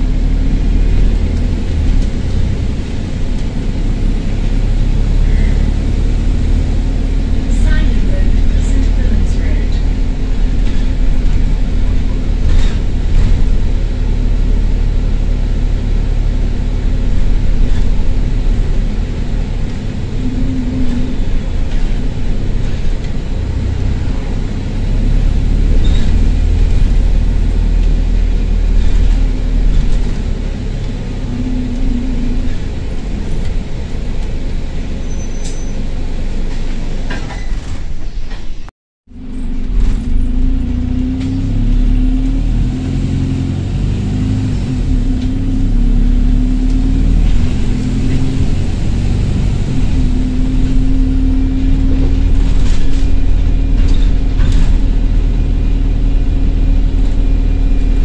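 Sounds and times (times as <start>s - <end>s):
bus engine with loud exhaust: 0.0s - 58.0s.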